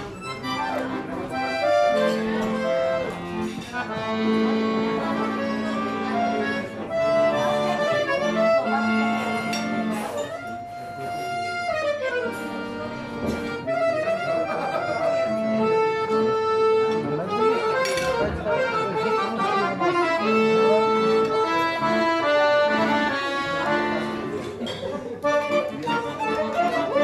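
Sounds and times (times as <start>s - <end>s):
violin: 0.0s - 24.6s, 25.2s - 27.0s
accordion: 0.0s - 27.0s.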